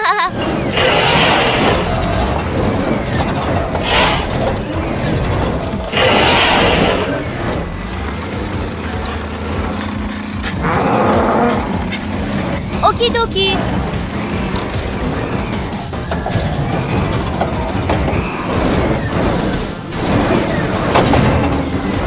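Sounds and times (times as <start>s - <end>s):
low engine rumble: 0.0s - 22.0s
noisy machinery bursts: 0.0s - 22.0s.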